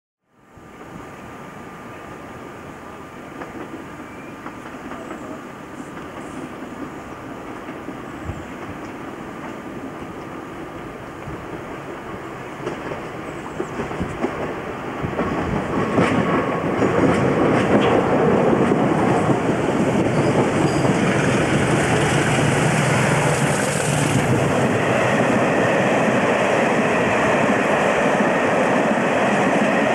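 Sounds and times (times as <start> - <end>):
diesel locomotive passing: 0.4 - 29.9.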